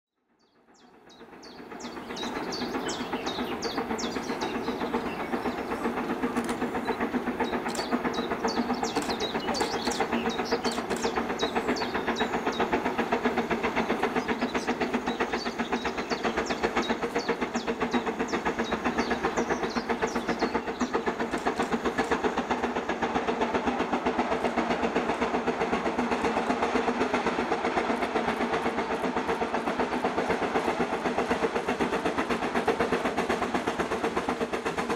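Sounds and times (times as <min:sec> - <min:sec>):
rolling train wheels: 0:00.3 - 0:34.9
steam locomotive working: 0:00.5 - 0:34.9.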